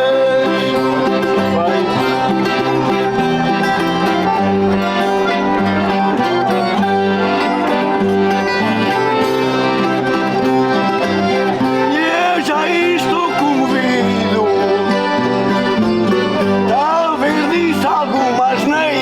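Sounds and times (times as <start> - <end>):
accordion: 0.0 - 19.0
strummed guitars: 0.0 - 19.0.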